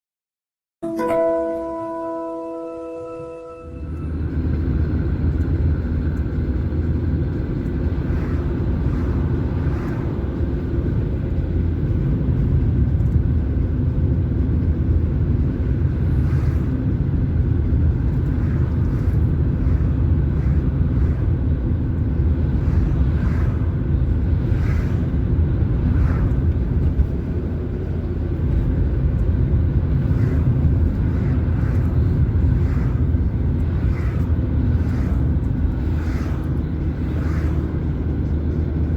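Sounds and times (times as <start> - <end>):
low road rumble: 3.2 - 38.9
car engine hum: 3.6 - 38.9.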